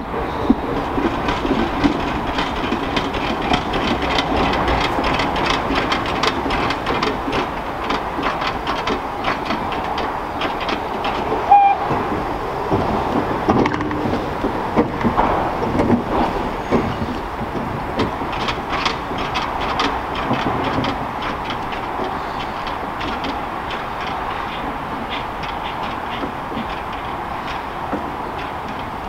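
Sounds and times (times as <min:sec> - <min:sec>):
steam locomotive rattling: 0:00.0 - 0:29.0.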